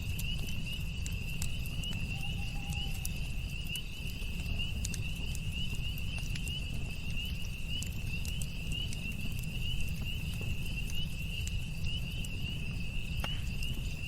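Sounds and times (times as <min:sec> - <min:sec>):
campfire crackling and popping: 0:00.0 - 0:14.0
crickets chirping: 0:00.0 - 0:14.0.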